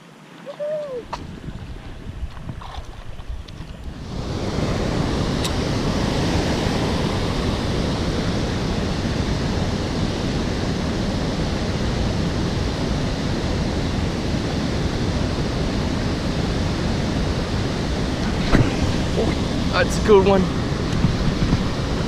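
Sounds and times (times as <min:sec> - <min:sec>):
steady rushing noise: 0:00.6 - 0:22.0.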